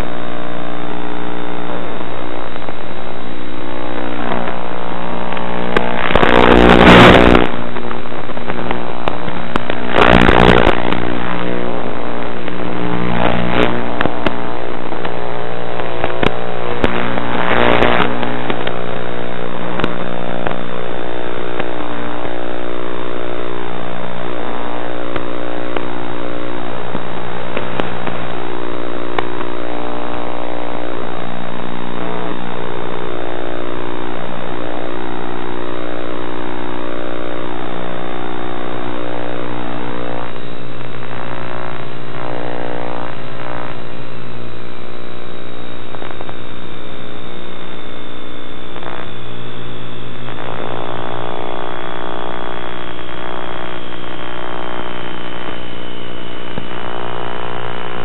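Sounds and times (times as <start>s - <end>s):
model airplane motor buzzing drone: 0.0s - 58.0s.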